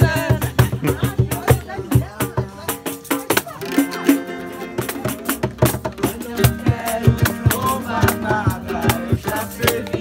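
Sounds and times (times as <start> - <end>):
people singing along: 0.0 - 1.8, 3.7 - 10.0
acoustic guitar strumming: 0.0 - 10.0.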